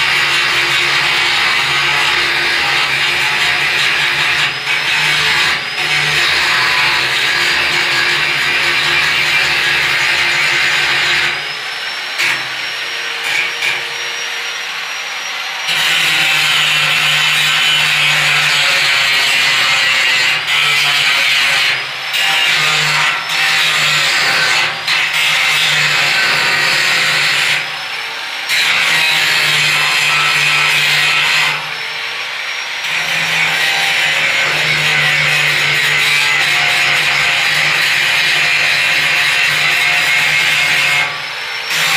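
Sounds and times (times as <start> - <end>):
angle grinder grinding steel: 0.0 - 41.9.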